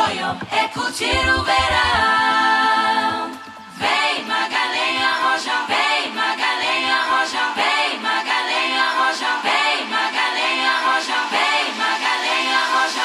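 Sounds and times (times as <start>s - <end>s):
song with layered singing voices: 0.0s - 13.0s.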